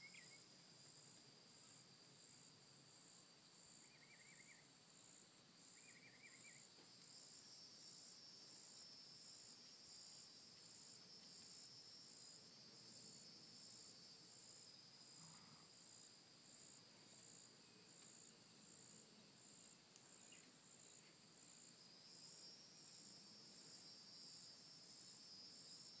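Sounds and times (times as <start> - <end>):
insect chirping: 0.0 - 26.0.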